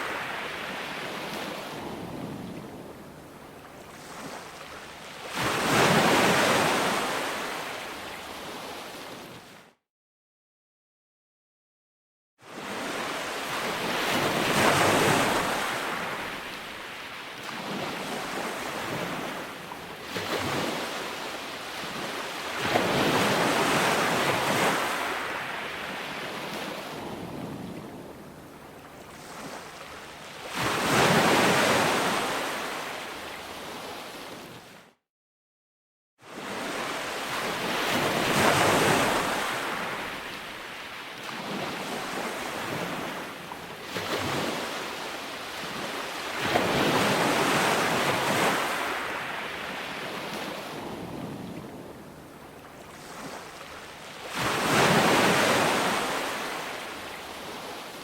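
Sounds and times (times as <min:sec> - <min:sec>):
ocean waves breaking on beach: 0:00.0 - 0:09.8, 0:12.4 - 0:35.0, 0:36.2 - 0:58.0.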